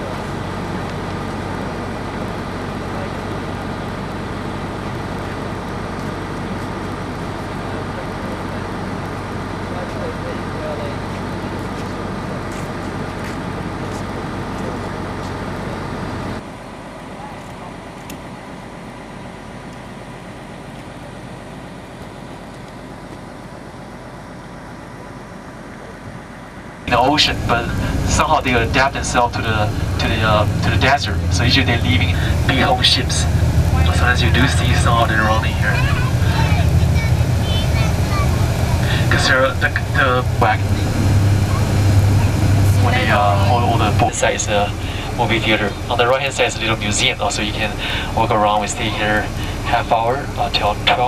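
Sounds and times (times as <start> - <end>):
bus engine running: 0.0 - 51.0.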